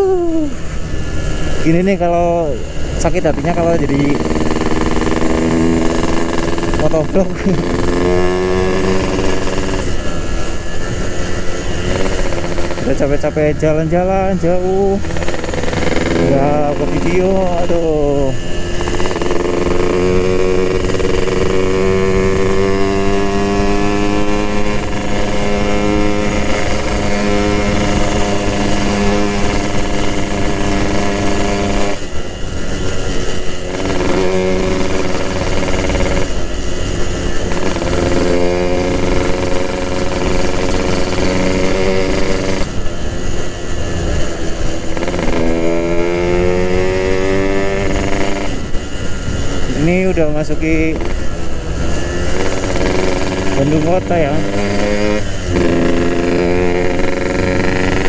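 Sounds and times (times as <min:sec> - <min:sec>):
two-stroke motorcycle engine running: 0:00.0 - 0:58.0.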